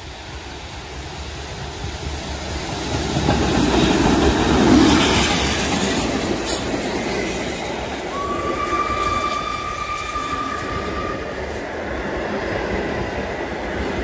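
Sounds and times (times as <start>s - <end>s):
steam locomotive passing: 0.0s - 14.0s.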